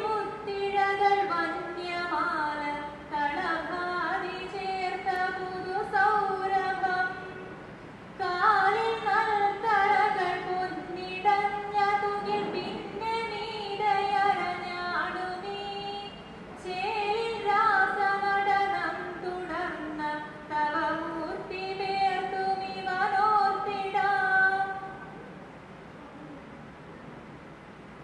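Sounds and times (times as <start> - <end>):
woman chanting over loudspeakers: 0.0 - 7.6, 8.2 - 25.1.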